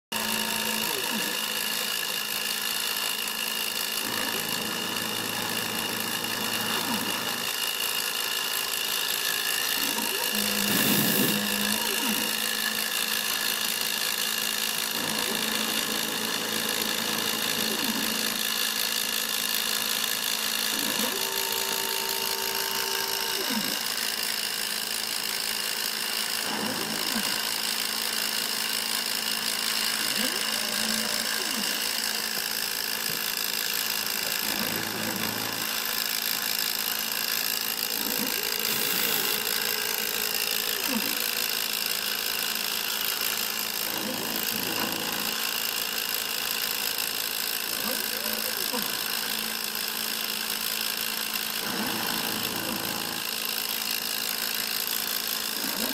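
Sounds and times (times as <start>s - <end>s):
axis motors humming: 0.1s - 55.9s
router spindle motor whine: 0.1s - 55.9s.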